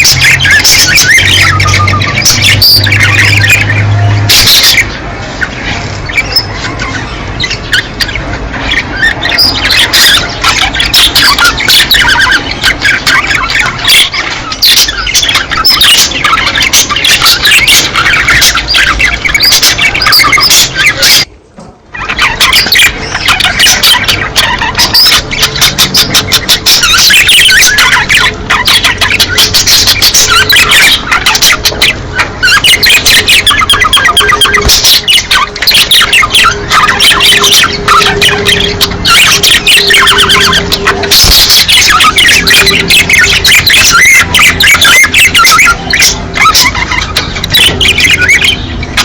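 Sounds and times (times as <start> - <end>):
budgerigars chattering and squawking: 0.0 - 49.0.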